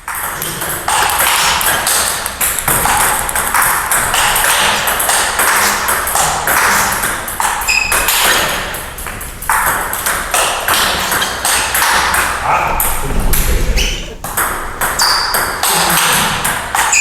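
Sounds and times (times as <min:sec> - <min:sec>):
ping pong ball hitting bats: 0:00.0 - 0:17.0
ball bouncing on table: 0:00.1 - 0:17.0.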